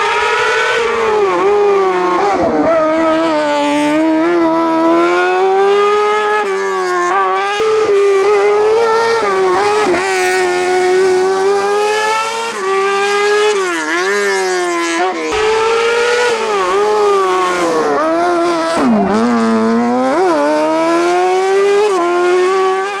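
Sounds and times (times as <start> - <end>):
race car engine at high revs: 0.0 - 23.0.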